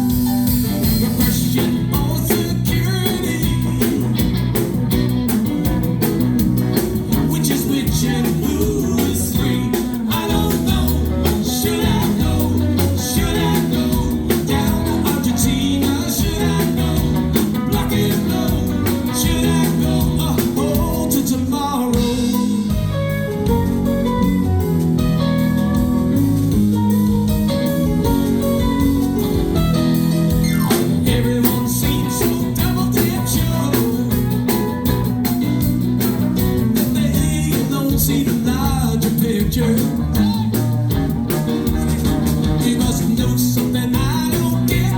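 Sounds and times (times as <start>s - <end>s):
drums and cymbals: 0.0s - 44.9s
live band playing: 0.0s - 44.9s.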